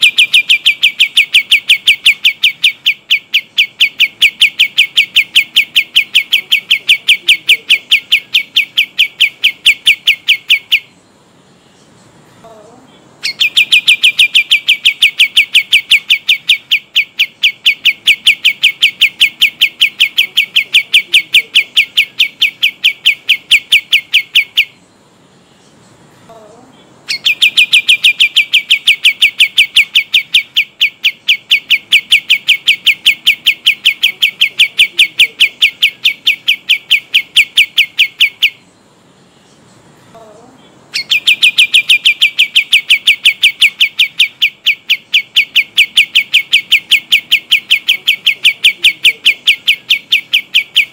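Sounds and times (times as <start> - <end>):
songbird trilling: 0.0 - 50.9.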